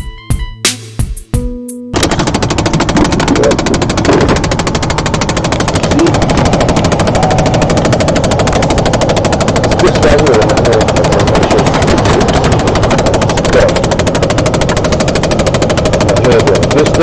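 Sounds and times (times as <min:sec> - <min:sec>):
actuator clicking rapidly: 0:02.0 - 0:17.0.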